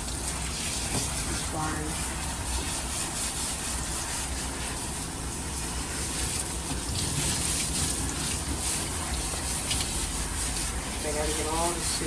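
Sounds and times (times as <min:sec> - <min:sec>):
water spraying from hose sprayer: 0:00.0 - 0:12.0.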